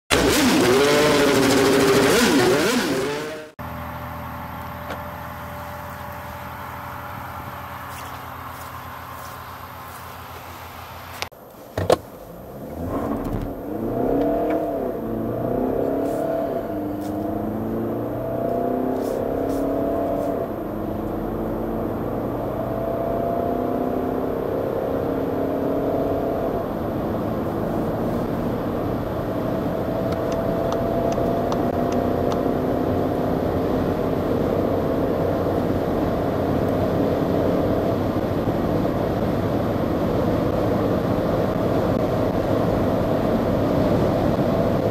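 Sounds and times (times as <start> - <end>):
car engine accelerating: 0.1 - 11.3, 12.3 - 44.9.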